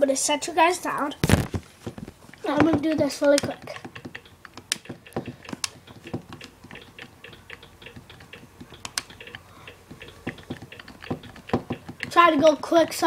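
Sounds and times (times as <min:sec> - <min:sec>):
keyboard typing: 0:02.3 - 0:13.0.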